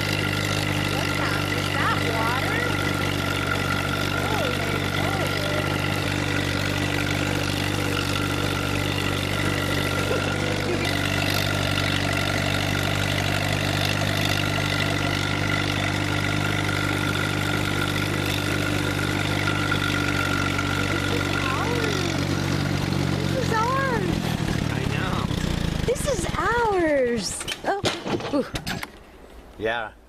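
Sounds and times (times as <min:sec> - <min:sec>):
vehicle engine running steadily: 0:00.0 - 0:27.5.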